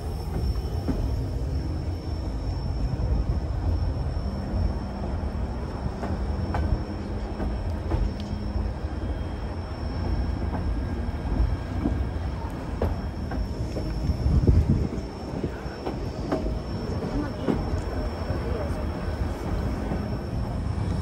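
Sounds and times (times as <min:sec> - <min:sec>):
clicks and clanks from train cars: 0:00.0 - 0:21.0
train rumbling on track: 0:00.0 - 0:21.0.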